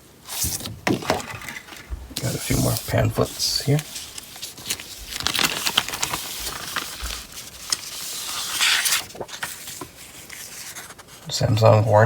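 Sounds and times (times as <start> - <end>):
paper rustling and crinkling: 0.2 - 11.5.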